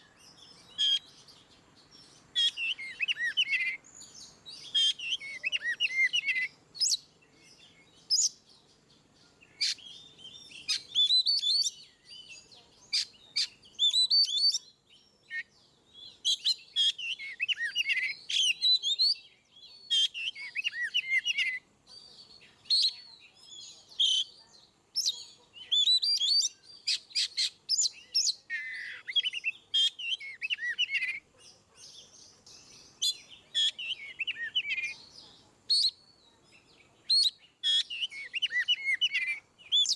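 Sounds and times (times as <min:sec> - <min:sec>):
songbird singing whistles and warbles: 0:00.0 - 0:39.9.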